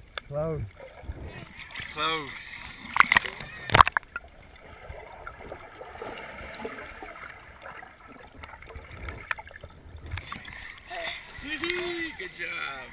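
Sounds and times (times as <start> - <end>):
muffled underwater rumble: 0.0 - 11.8.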